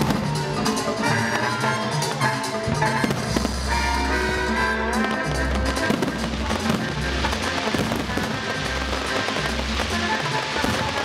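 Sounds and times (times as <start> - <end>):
fireworks bursting and crackling: 0.0 - 11.0
music with pulsing bass beat: 0.0 - 11.0.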